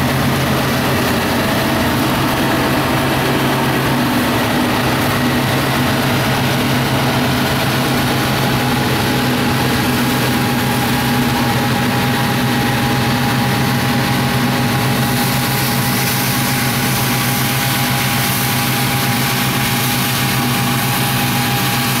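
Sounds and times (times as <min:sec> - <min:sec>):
combine harvester drone: 0:00.0 - 0:22.0.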